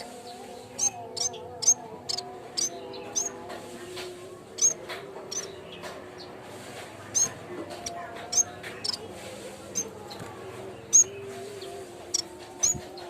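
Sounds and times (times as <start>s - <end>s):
warbler chirping: 0.0s - 3.6s, 4.5s - 6.4s, 7.0s - 13.0s.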